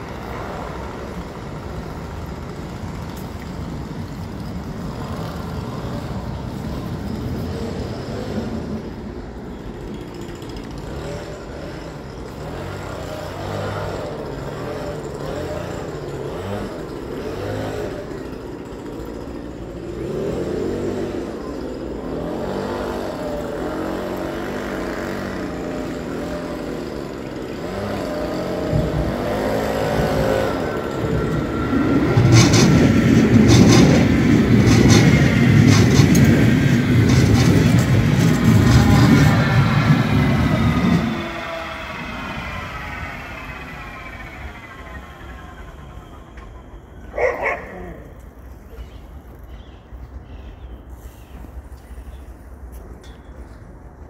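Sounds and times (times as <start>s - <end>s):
train wheels clattering over rails: 0.0s - 47.6s
rumble of vehicles: 0.0s - 54.0s.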